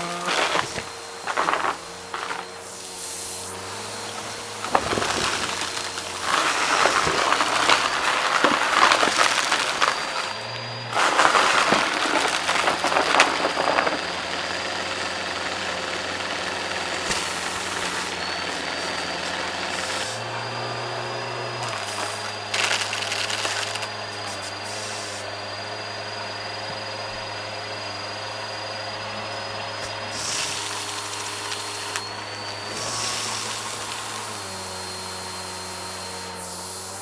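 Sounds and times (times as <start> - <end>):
debris crackling and crunching: 0.0 - 24.1, 29.8 - 35.9
vacuum cleaner whining: 0.0 - 37.0.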